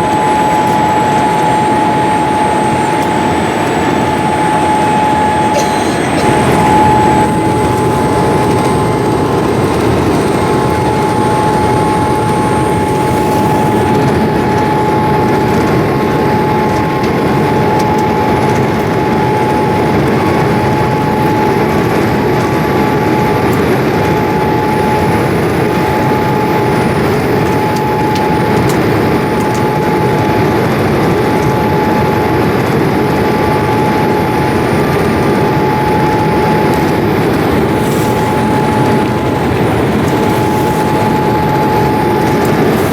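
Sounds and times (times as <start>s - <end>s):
airliner cabin engine rush: 0.0s - 42.9s
thin steady whine: 0.0s - 42.9s.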